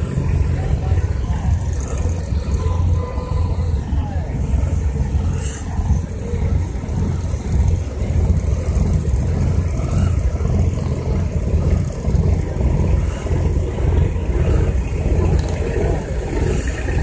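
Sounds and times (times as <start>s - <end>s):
truck engines idling: 0.0s - 17.0s.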